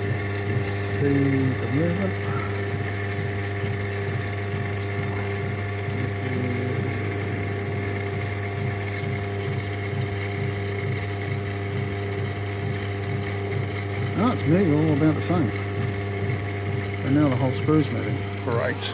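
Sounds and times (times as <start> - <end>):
metal lathe humming: 0.0 - 18.9.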